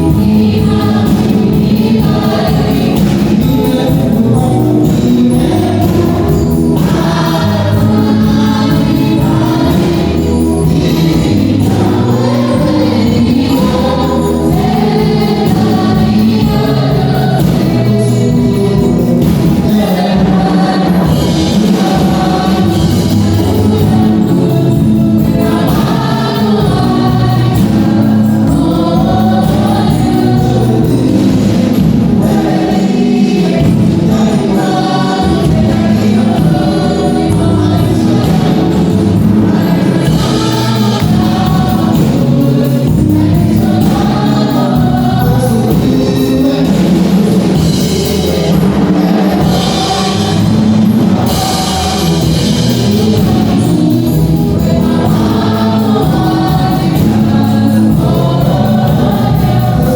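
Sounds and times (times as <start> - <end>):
choir singing gospel: 0.0 - 59.9.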